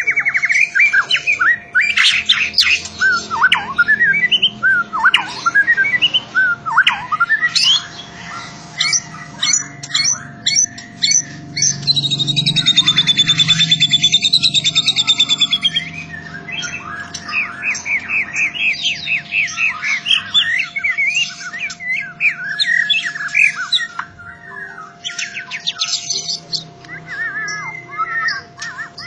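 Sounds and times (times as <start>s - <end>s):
bird singing whistled phrases: 0.0s - 29.0s.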